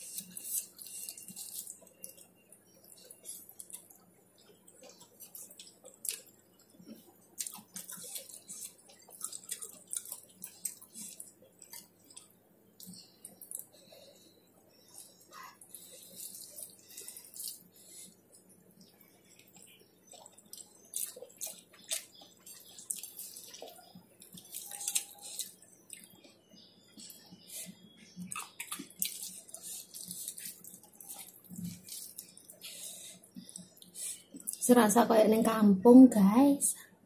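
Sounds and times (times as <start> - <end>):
wet chewing and mouth noises: 0.0 - 34.7.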